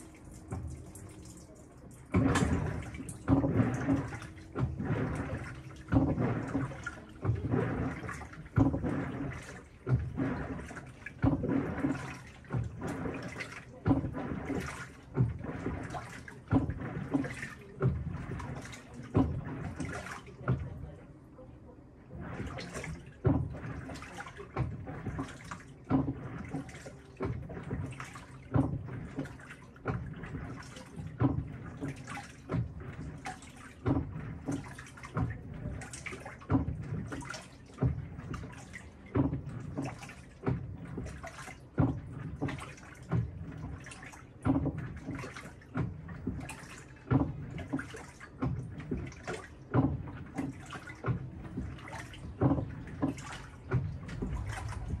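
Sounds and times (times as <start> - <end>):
washing machine agitating: 0.0 - 55.0
water sloshing: 0.0 - 55.0.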